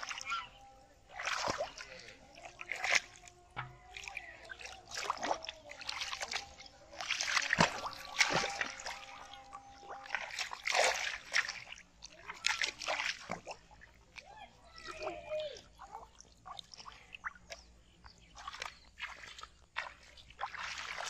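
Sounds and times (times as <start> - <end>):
fish thrashing in water: 0.0 - 21.0
splashing in shallow water: 0.0 - 21.0.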